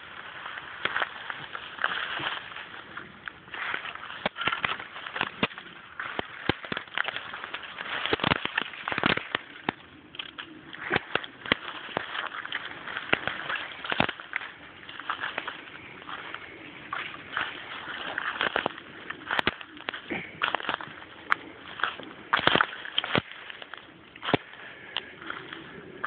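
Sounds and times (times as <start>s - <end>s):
footsteps through dry leaves: 0.0s - 26.0s
twigs snapping: 0.0s - 26.0s.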